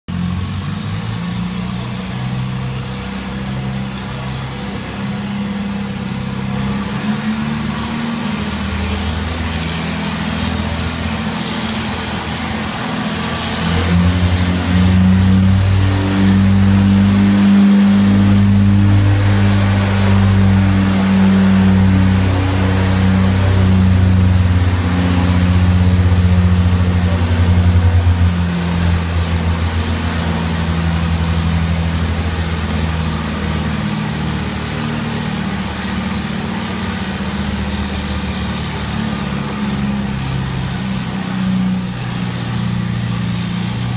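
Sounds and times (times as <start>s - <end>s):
tractor engine under load: 0.1s - 43.9s.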